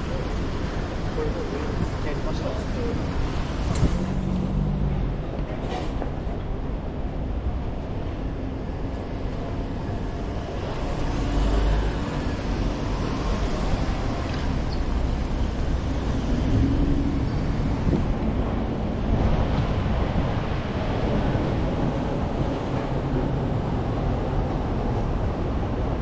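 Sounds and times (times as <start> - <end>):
city street ambience: 0.0 - 26.0
wind rumble on microphone: 0.0 - 26.0.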